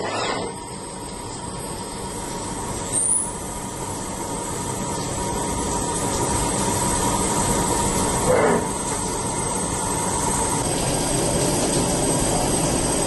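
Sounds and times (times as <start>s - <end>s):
machine whirring hiss: 0.0s - 13.0s.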